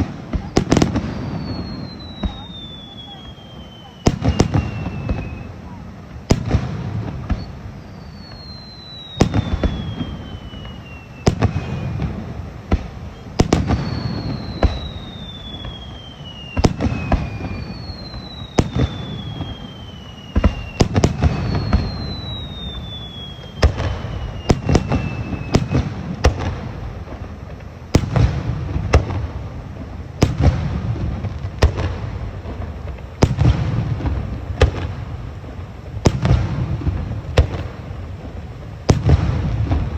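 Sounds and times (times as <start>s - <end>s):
falling firework whistles: 0.0s - 39.9s
fireworks booming: 0.0s - 39.9s.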